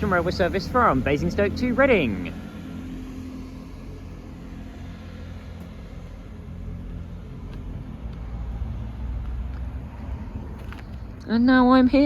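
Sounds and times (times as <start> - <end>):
diesel train rumbling away: 0.0 - 12.0.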